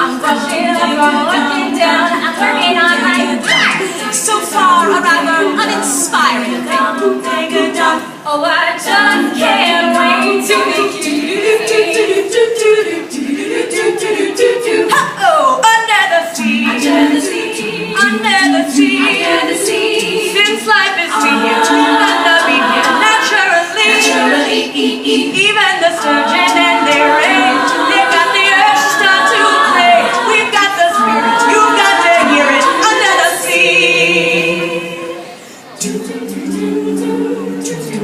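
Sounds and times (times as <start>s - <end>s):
women singing a cappella: 0.0s - 38.0s.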